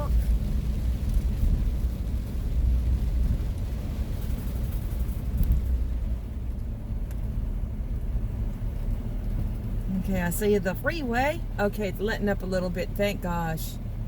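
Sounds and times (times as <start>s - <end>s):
engine and tyre rumble: 0.0s - 14.0s
rain hissing on vehicle and road: 0.0s - 14.0s.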